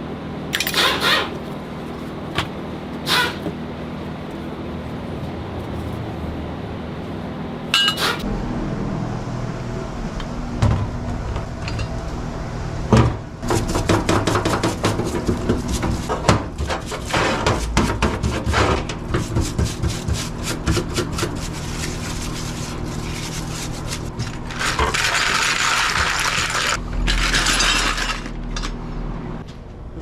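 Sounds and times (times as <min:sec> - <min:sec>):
steady low hum: 0:01.3 - 0:30.0.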